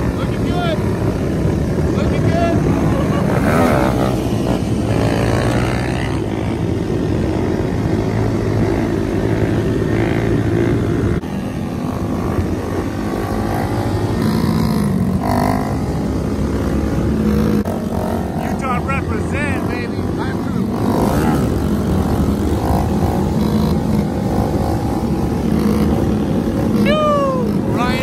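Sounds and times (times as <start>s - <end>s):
small motorcycle engines revving: 0.0s - 28.0s.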